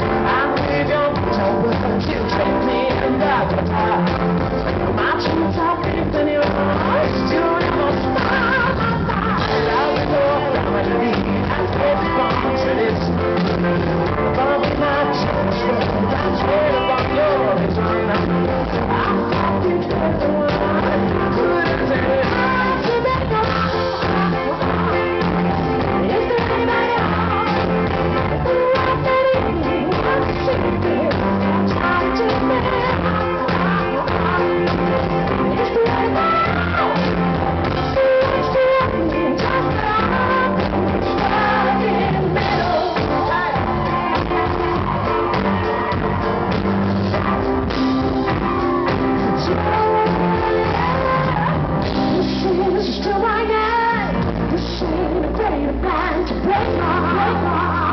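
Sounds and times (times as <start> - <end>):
person singing: 0.0 - 57.9
pop-rock band playing: 0.0 - 57.9.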